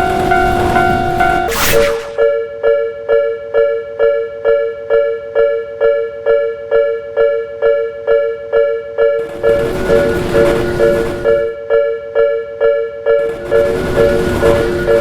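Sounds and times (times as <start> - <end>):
level-crossing warning bell: 0.0 - 1.5, 2.2 - 15.0.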